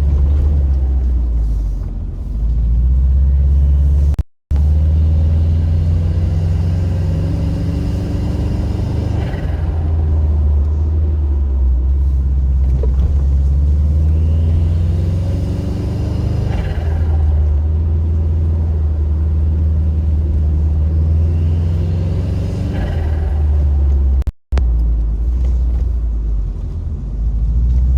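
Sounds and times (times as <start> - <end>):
car engine rumbling: 0.0 - 27.9.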